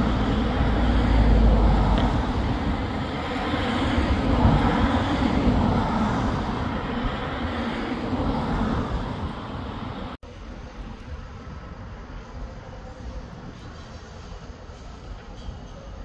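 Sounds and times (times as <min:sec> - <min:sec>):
train passing with rumble: 0:00.0 - 0:16.0.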